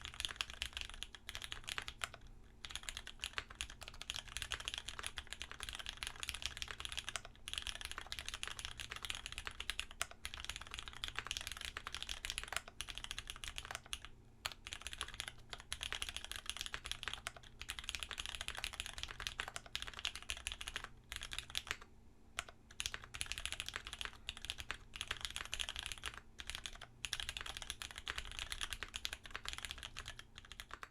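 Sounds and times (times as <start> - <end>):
mechanical keyboard typing: 0.0 - 30.9.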